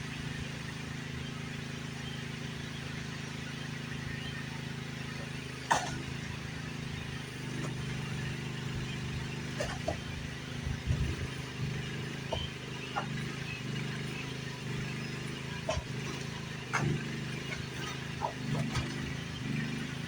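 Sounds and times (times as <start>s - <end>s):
small machine engine running: 0.0s - 20.0s.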